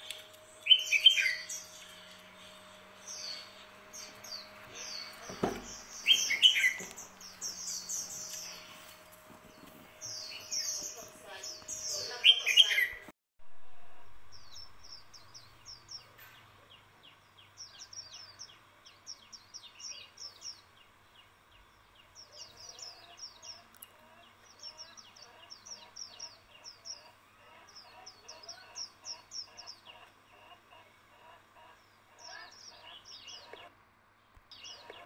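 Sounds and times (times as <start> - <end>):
bird chirping: 0.0 - 13.1, 14.2 - 35.0.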